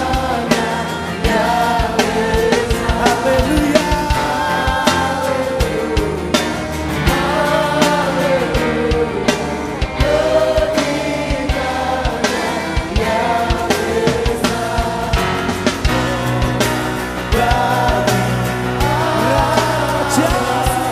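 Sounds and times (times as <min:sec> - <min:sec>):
band with bass: 0:00.0 - 0:20.9
choir singing gospel music: 0:00.0 - 0:20.9
steady drum beat: 0:00.0 - 0:20.9.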